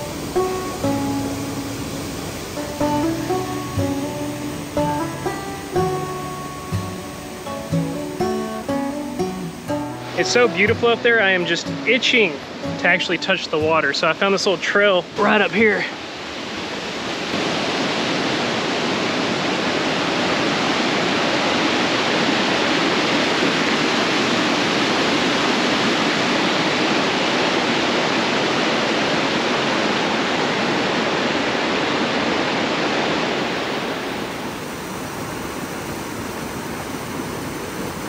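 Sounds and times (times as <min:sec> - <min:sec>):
water rushing over rocks: 0:00.0 - 0:38.0.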